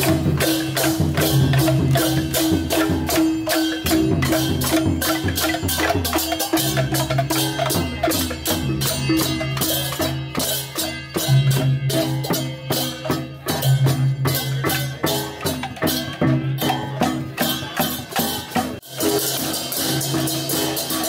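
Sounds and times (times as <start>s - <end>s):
clashing hand cymbals: 0.0s - 21.0s
drum strokes: 0.0s - 21.0s.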